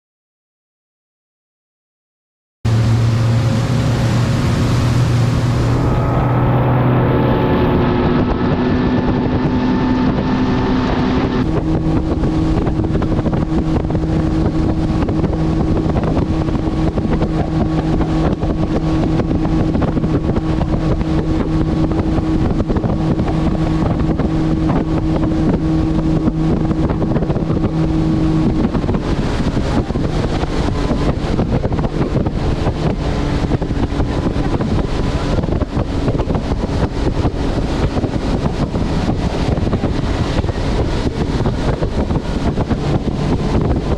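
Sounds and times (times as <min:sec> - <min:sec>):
outboard motor running: 0:02.7 - 0:43.9
wind noise on microphone: 0:02.7 - 0:43.9.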